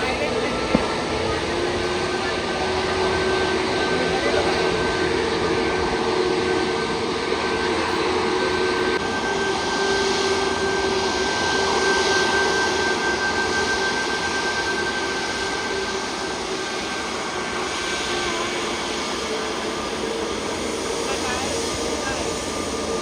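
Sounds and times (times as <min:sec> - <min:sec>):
jet engines rushing and whining: 0:00.0 - 0:23.0.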